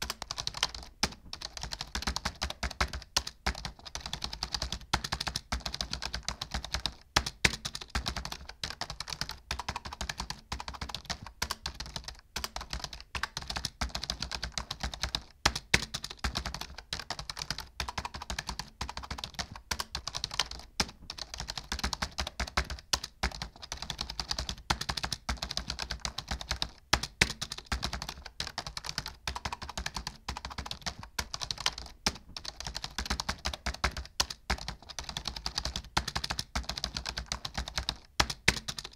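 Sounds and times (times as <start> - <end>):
keyboard typing: 0.0 - 38.9.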